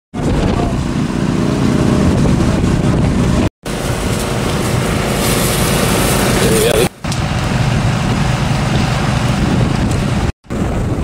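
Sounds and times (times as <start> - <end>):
small water pump engine running: 0.7 - 10.3.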